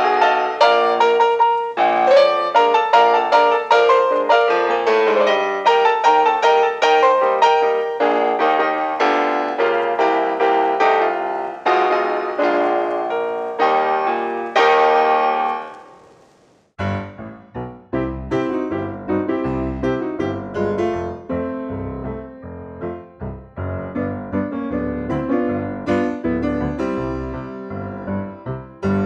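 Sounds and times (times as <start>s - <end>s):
solo piano: 0.0s - 29.0s.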